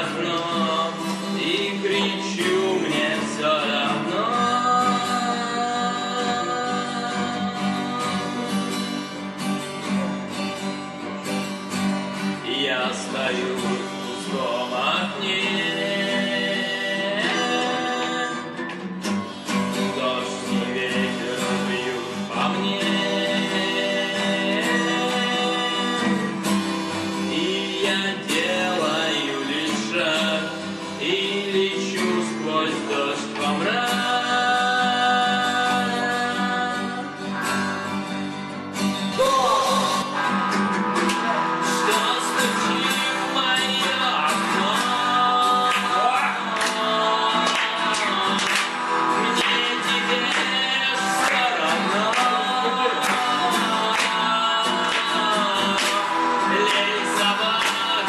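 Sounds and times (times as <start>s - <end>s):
strummed acoustic guitar: 0.0s - 58.0s
harmonica long notes: 0.8s - 31.8s, 33.6s - 58.0s.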